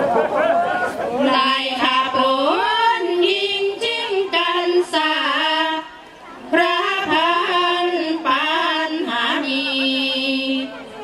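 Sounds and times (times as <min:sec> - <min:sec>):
woman chanting unaccompanied: 0:01.2 - 0:10.9.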